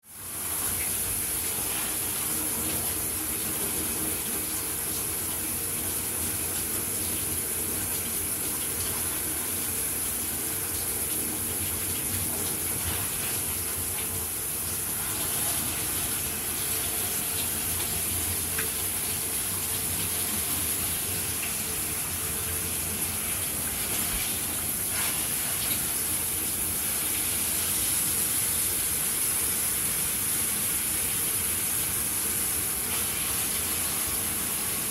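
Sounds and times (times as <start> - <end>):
shower water spraying: 0.1 - 34.9.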